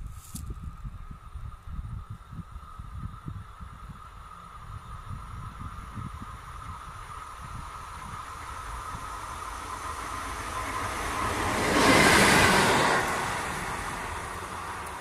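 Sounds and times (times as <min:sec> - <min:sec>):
locomotive wheel and rail noise: 0:00.0 - 0:15.0.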